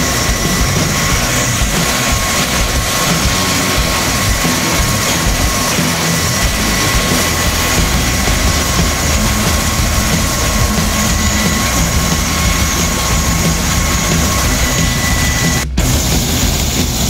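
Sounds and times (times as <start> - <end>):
high whine: 0.0 - 17.0
tiltrotor engines rumbling: 0.0 - 17.0.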